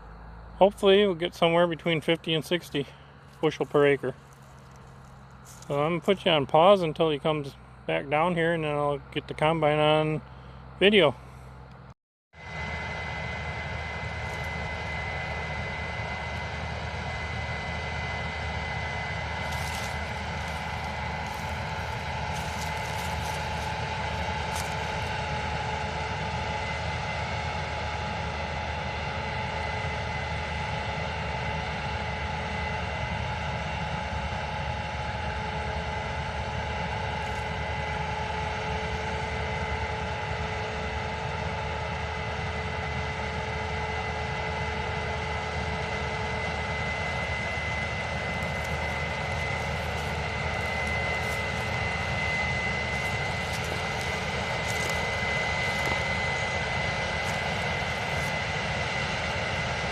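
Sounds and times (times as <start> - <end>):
combine engine drone: 0.0 - 59.9
high-pitched machinery whine: 0.0 - 59.9.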